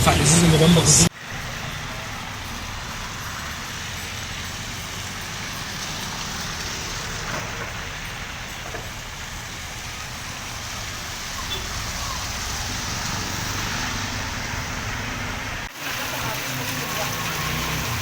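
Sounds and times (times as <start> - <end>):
traffic hissing on wet road: 0.0 - 18.0.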